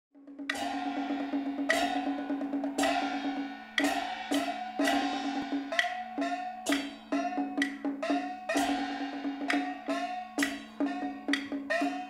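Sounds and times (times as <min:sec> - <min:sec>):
ringing percussion strikes: 0:00.4 - 0:12.0.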